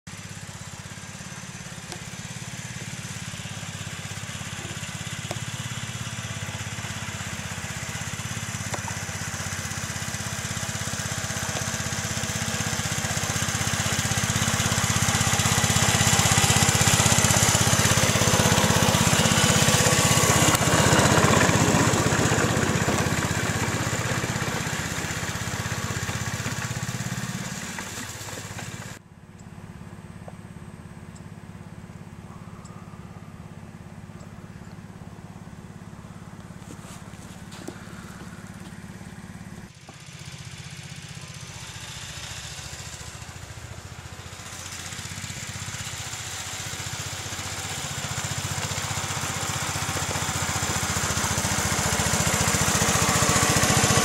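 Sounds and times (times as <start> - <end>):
small locomotive engine running: 0.1 - 54.0.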